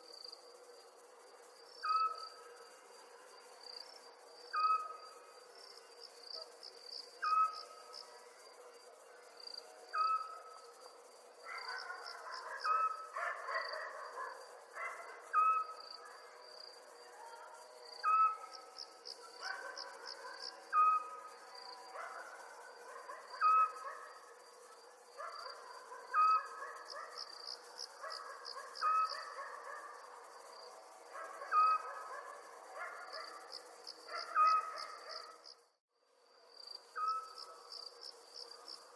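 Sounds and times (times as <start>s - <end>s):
crickets chirping: 0.0s - 38.9s
soft background insect calls: 0.0s - 38.9s.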